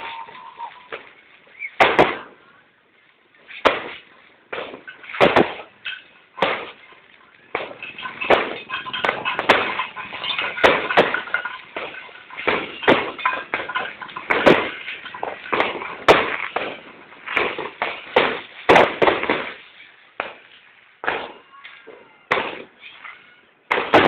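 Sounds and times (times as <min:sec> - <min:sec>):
fireworks bangs and pops: 0:00.0 - 0:24.0
fireworks crackling: 0:00.0 - 0:24.0.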